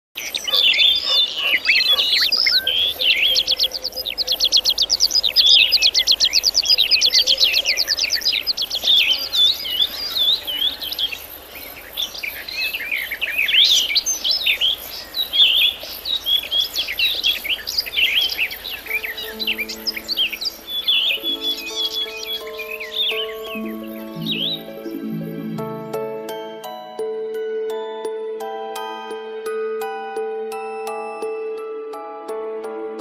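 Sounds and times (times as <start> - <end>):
birdsong chirps and twittering: 0.2 - 31.7.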